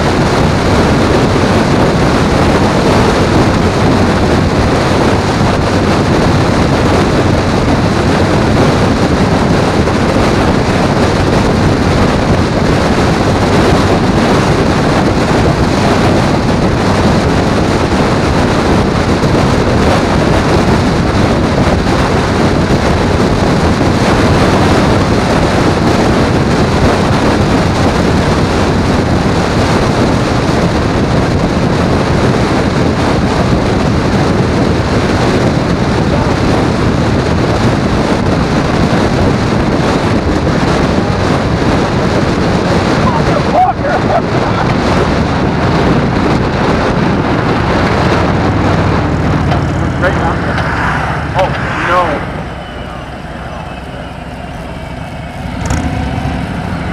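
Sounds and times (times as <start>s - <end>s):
vehicle road noise: 0.0s - 56.9s
wind rush on microphone: 0.0s - 56.9s.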